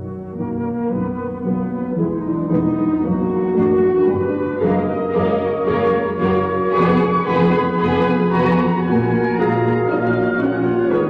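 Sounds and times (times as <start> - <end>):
orchestral strings sustained notes: 0.0 - 11.0.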